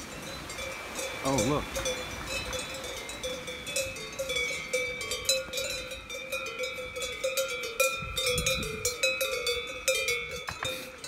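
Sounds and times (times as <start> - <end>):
cowbells clanking: 0.0 - 11.0.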